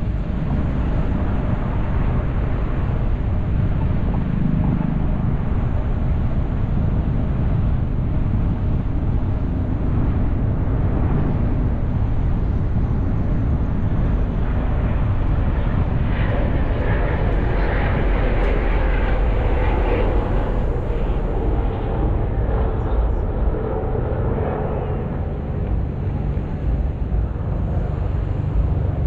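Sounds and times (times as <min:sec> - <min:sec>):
car road and wind noise: 0:00.0 - 0:29.0.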